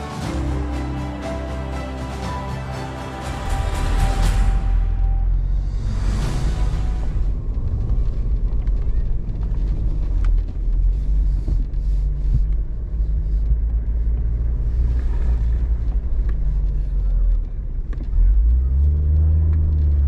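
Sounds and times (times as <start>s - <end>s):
engine low drone: 0.0s - 20.0s.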